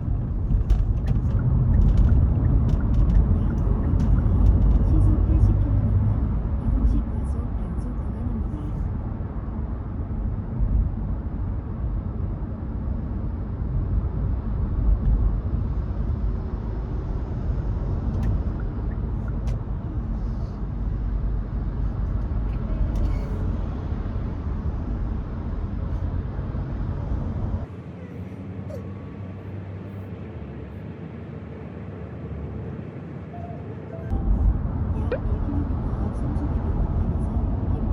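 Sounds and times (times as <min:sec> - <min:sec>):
car engine and road noise: 0:00.0 - 0:37.9.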